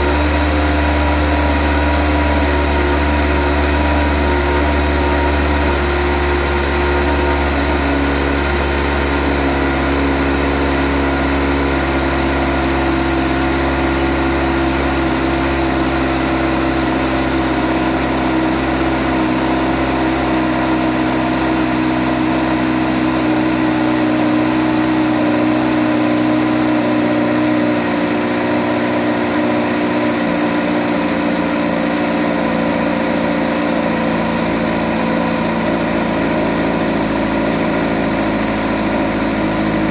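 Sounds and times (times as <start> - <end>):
engine ticking: 0.0 - 39.9
motorcycle engine idling: 0.0 - 39.9.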